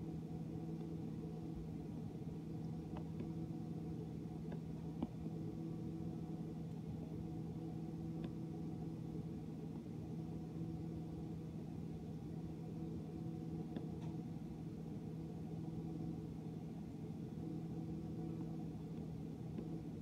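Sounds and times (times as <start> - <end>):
dishwasher motor hum: 0.0 - 20.0.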